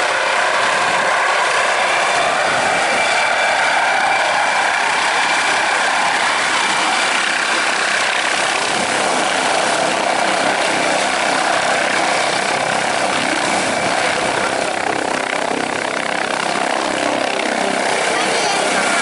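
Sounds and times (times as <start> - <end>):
helicopter turbine and rotor noise: 0.0 - 19.0.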